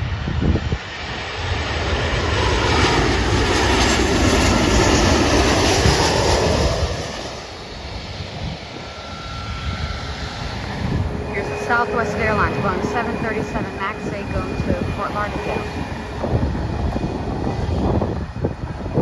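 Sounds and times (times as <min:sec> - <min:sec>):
jet airliner passing: 0:00.0 - 0:19.0.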